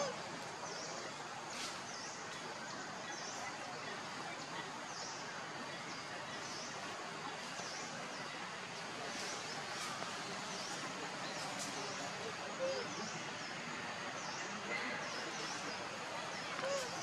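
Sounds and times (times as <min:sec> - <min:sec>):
steady forest hiss: 0:00.0 - 0:17.0.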